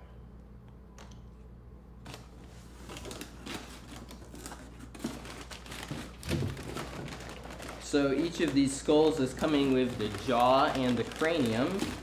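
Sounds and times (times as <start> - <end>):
packing rustling: 2.1 - 12.0.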